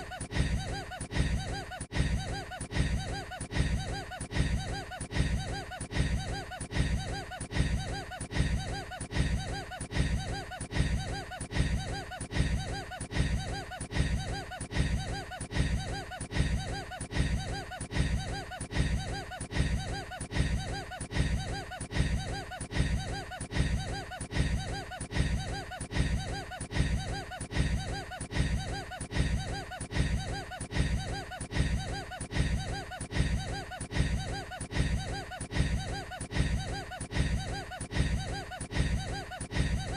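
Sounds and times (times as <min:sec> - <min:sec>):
man laughing breathily: 0:00.0 - 0:39.9.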